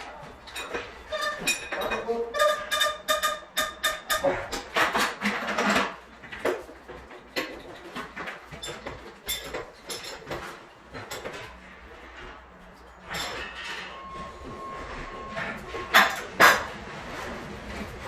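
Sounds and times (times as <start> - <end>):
tools and metal parts clinking: 0.0 - 16.7.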